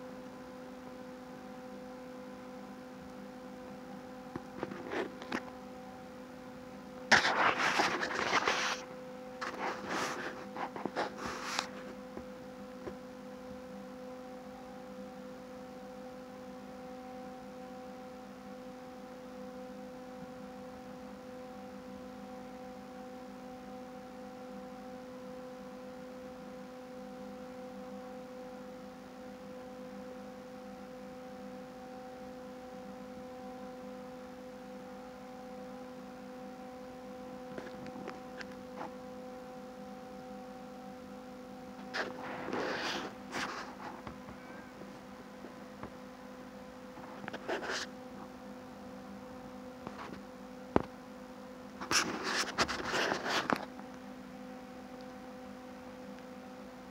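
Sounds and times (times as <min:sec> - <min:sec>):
steady electrical hum: 0:00.0 - 0:56.9.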